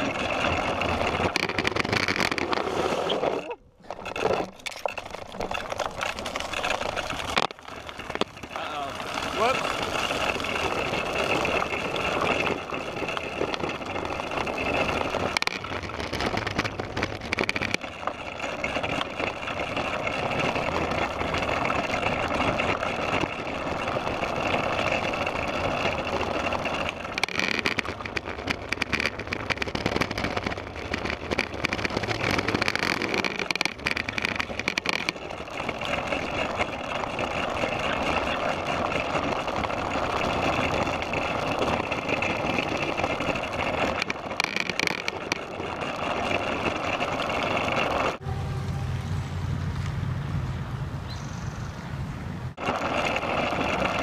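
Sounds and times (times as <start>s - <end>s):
tricycle wheel rolling on bricks: 0.0s - 54.0s.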